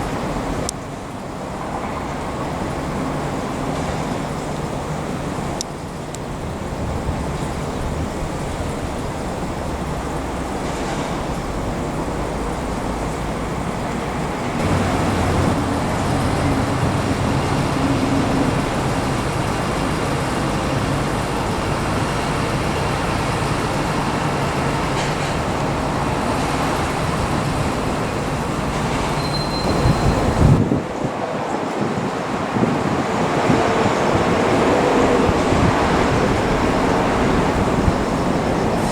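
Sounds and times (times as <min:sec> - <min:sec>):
diesel locomotive engine running: 0:00.0 - 0:38.9.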